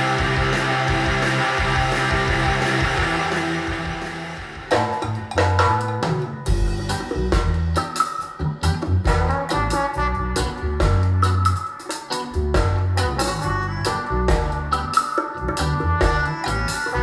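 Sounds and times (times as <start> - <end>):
hard rock music on speakers: 0.0 - 17.0
reggae music with drums: 0.0 - 17.0.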